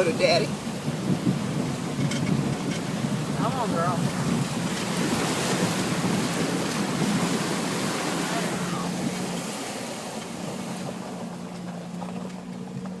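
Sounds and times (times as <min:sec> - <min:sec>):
truck engine hum: 0:00.0 - 0:13.0
water splashing: 0:00.0 - 0:13.0.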